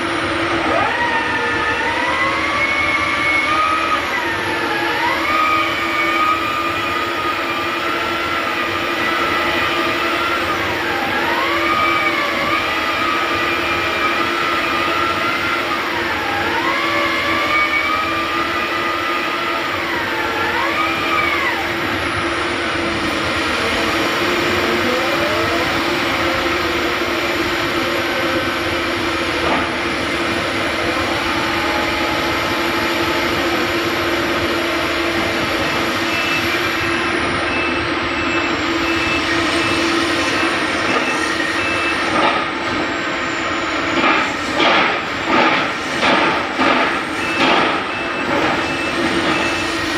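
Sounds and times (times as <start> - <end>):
drilling rig engine running: 0.0 - 49.9.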